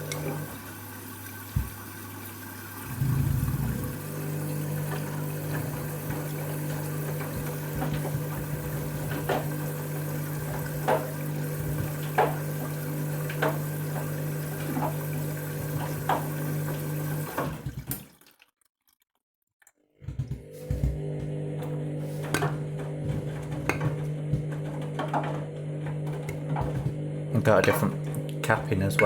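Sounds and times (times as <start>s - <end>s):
washing machine humming: 0.0s - 18.2s, 20.0s - 29.0s.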